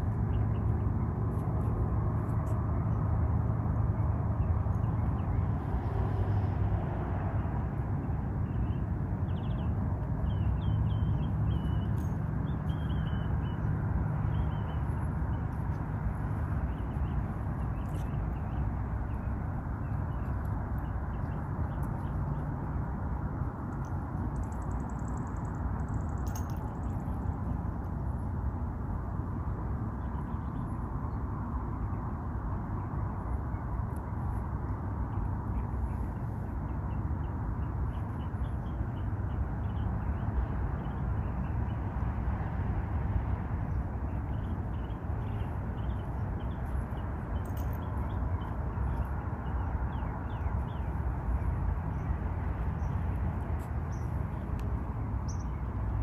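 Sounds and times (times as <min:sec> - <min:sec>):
vehicle hum: 0:00.0 - 0:56.0.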